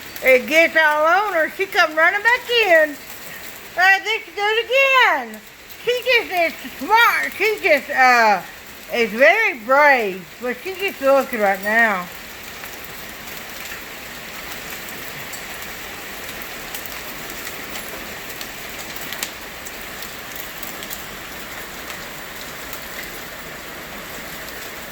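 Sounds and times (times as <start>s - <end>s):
hail falling: 0.0s - 24.9s
hailstones ticking on hard surfaces: 0.0s - 24.9s.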